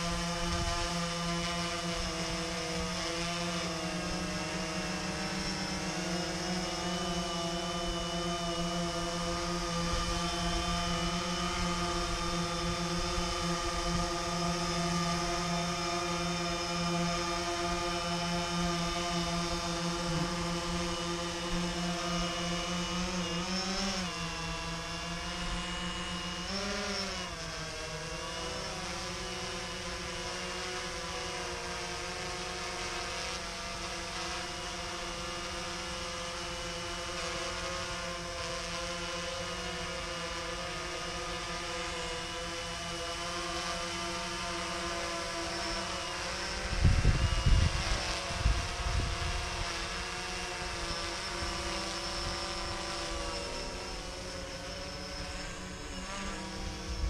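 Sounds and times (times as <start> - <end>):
drone rotors humming: 0.0 - 57.0.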